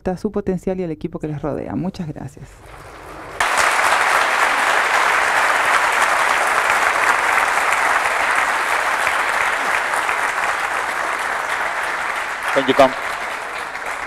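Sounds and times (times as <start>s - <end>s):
audience applauding: 2.6s - 14.0s.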